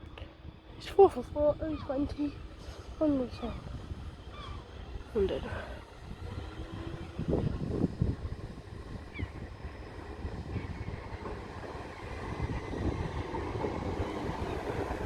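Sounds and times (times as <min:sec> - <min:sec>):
electric train pulling away: 0:00.0 - 0:15.0.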